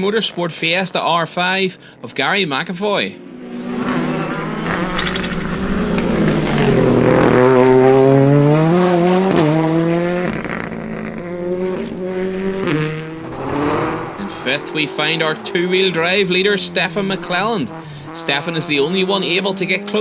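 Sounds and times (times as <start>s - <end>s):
rally car engine revving: 3.2s - 20.0s.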